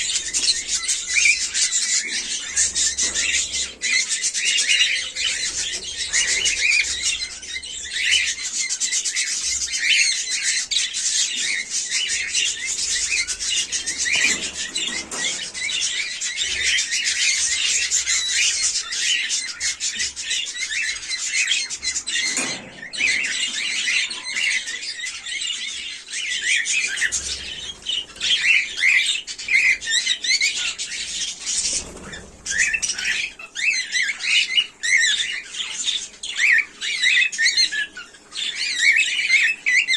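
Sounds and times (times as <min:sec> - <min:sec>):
cockatiels chirping: 0:00.0 - 0:39.9.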